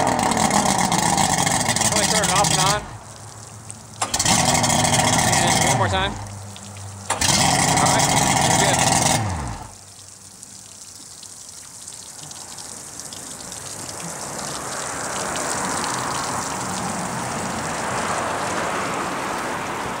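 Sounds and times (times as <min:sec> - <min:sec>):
water drips ticking: 0:00.0 - 0:19.6
water spraying onto pavement: 0:00.0 - 0:20.0.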